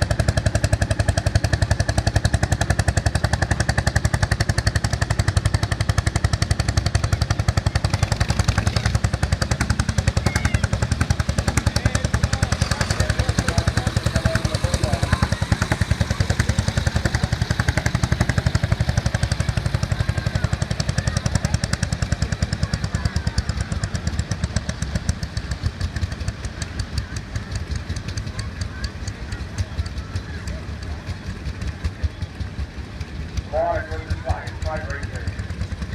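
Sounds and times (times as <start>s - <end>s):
tractor engine working hard: 0.0s - 35.9s.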